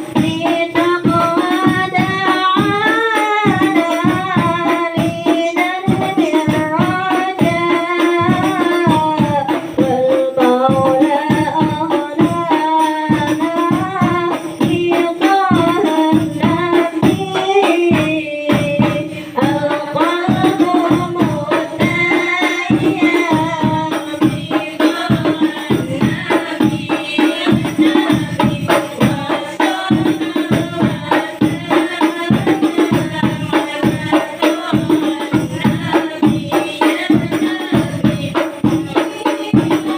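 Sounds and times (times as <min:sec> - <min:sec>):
frame drums with jingles: 0:00.0 - 0:39.9
women singing together: 0:00.0 - 0:39.9.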